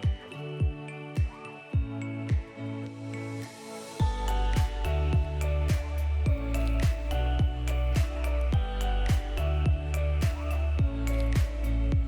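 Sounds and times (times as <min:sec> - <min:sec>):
background music with low thumps: 0:00.0 - 0:02.6, 0:04.0 - 0:12.0.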